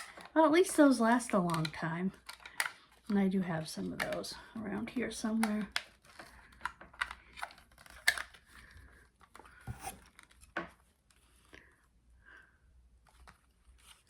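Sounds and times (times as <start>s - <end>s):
plastic parts clicking and rustling: 0.0s - 11.3s.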